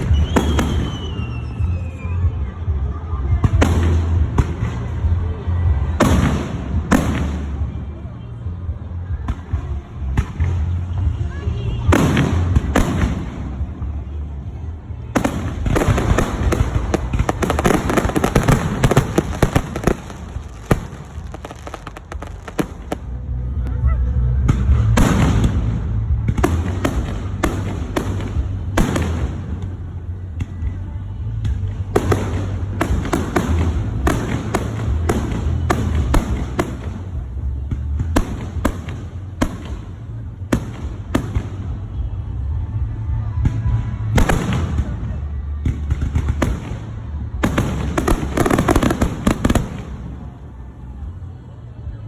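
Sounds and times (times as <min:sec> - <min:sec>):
fireworks crackling and banging: 0:00.0 - 0:51.9
low rumble: 0:01.4 - 0:52.0.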